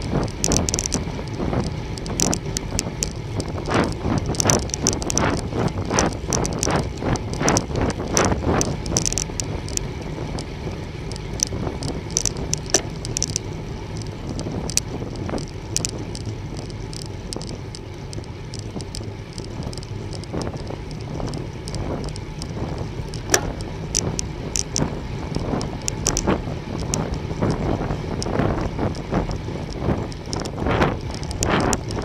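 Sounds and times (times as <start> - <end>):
bicycle tyre noise: 0.0 - 32.0
bike clicks and rattles: 0.0 - 32.0
wind noise: 0.0 - 32.0.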